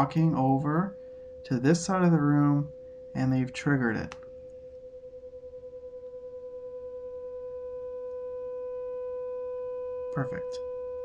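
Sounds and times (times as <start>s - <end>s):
beating sine tones: 0.0s - 11.0s.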